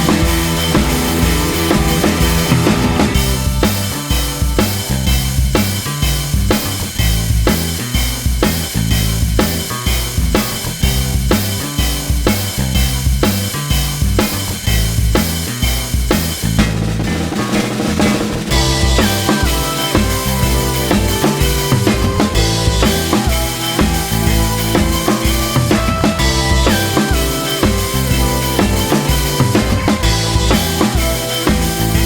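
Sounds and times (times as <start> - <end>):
bass line: 0.0 - 32.0
drum kit beat: 0.0 - 32.0.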